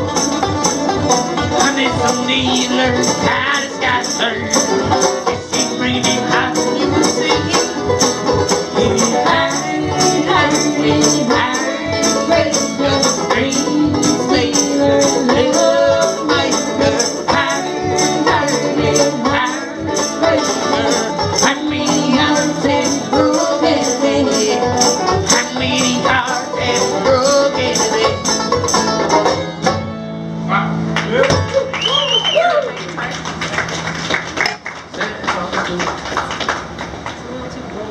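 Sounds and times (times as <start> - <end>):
live band playing: 0.0 - 37.0.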